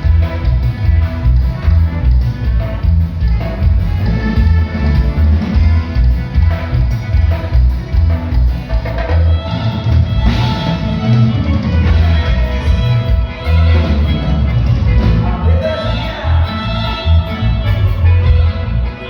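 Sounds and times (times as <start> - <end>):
band music with pulsing bass: 0.0 - 19.0.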